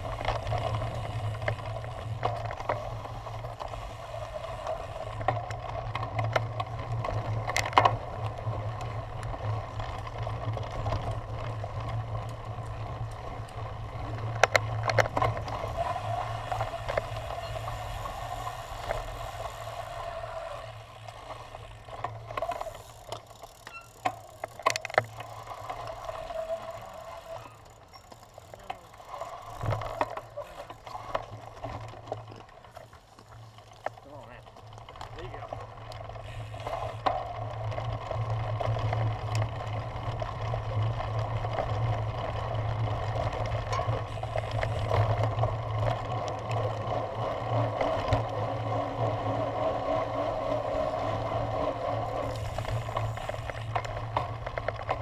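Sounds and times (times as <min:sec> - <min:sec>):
bike rumbling and rattling: 0:00.0 - 0:55.0.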